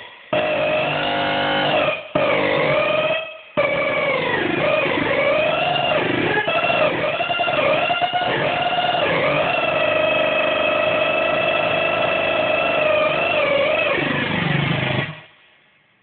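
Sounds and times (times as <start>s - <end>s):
buzzy oscillator tone: 0.0s - 15.3s.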